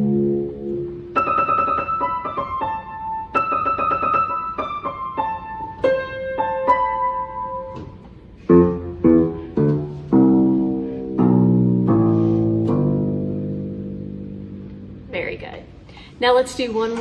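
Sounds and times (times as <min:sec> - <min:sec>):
piano playing: 0:00.0 - 0:15.4.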